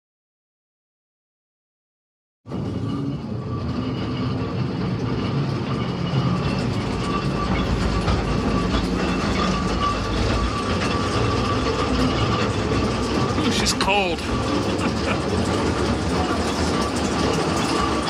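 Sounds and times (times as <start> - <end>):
rail car wheels rumbling: 2.5 - 18.0.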